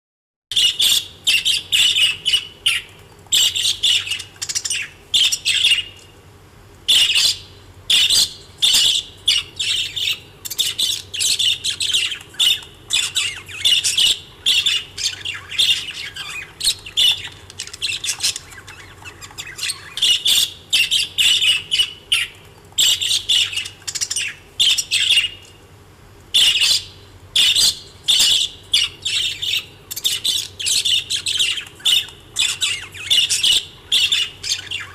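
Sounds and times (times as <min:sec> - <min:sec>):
small parrots chirping and squawking: 0:00.5 - 0:06.2, 0:06.9 - 0:25.6, 0:26.3 - 0:34.9.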